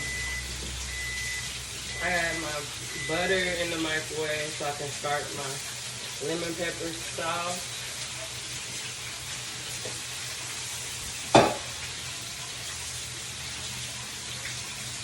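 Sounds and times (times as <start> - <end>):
chicken wings sizzling in a pan: 0.0 - 15.0.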